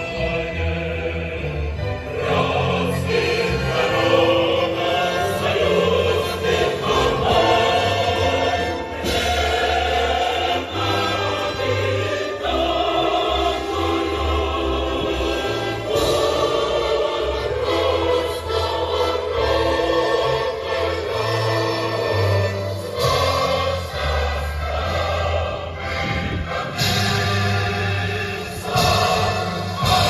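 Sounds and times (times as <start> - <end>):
choir singing sustained chords: 0.0 - 30.0
instrumental accompaniment with bass: 0.0 - 30.0.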